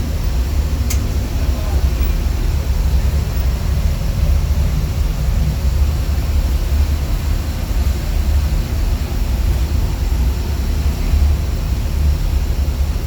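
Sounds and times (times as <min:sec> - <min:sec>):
boiler room machinery rumble: 0:00.0 - 0:13.0.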